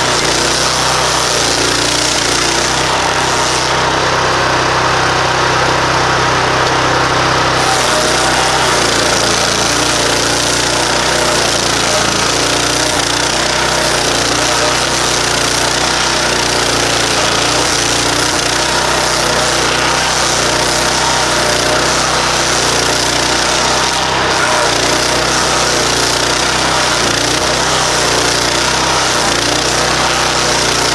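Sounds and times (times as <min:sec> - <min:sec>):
cutting wheel grinding wood: 0:00.0 - 0:30.9
engine running under load: 0:00.0 - 0:30.9.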